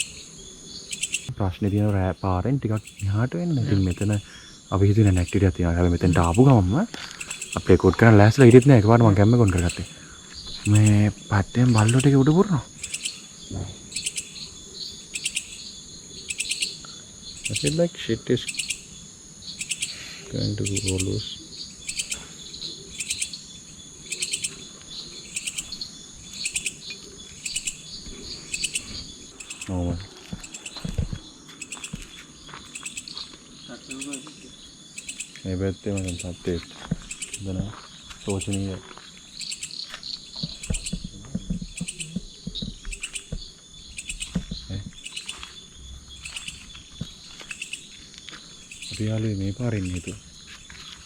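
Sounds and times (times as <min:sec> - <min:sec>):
high-pitched insect drone: 0:00.0 - 0:51.0
insect trill: 0:00.0 - 0:51.0.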